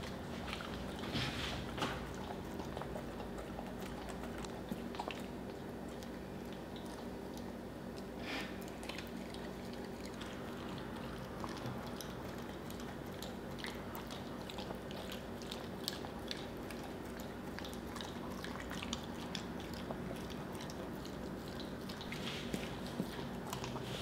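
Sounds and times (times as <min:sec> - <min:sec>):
dog licking and smacking lips: 0:00.0 - 0:24.0
steady low hum: 0:00.0 - 0:24.0.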